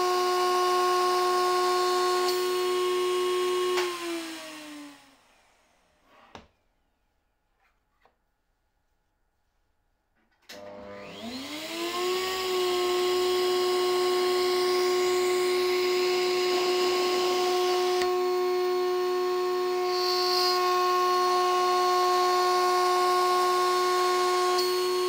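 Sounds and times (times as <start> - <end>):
router motor whining: 0.0 - 6.4, 10.6 - 25.0.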